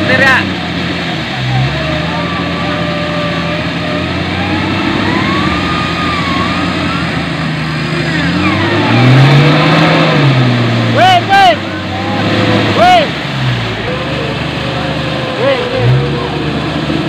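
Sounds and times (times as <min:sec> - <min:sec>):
engine revving hard: 0:00.0 - 0:17.0.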